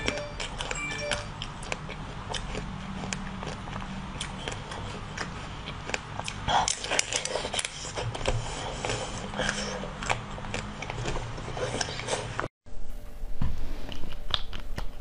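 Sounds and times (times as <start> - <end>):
crunchy sweet chewing: 0.0 - 12.4.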